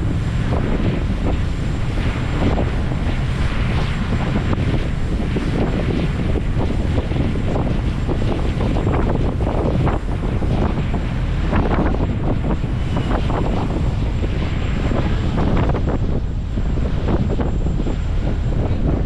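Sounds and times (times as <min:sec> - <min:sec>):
ferry engine low rumble: 0:00.0 - 0:19.0
wind buffeting microphone: 0:00.0 - 0:19.0.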